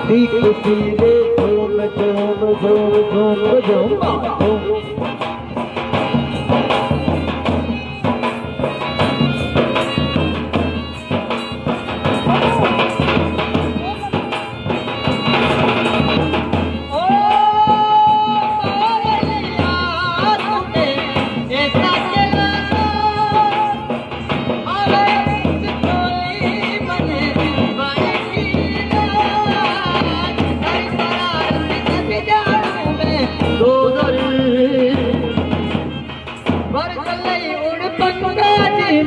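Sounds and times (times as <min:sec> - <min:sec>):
folk melody in voice and instruments: 0:00.0 - 0:39.0
steady drumming: 0:00.0 - 0:39.0.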